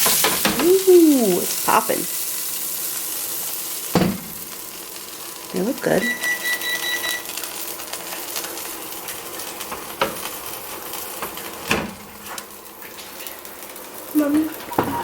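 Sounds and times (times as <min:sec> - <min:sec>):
grease sizzling and popping: 0:00.0 - 0:15.0.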